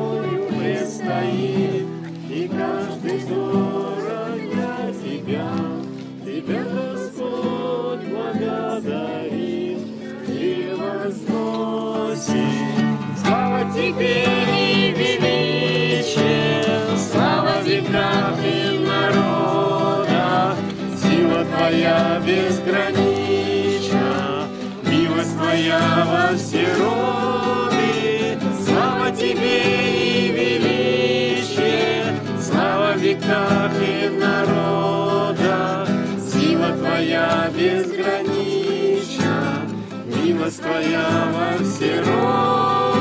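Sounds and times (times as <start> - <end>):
group of people singing: 0.0 - 43.0
strummed acoustic guitar: 0.0 - 43.0.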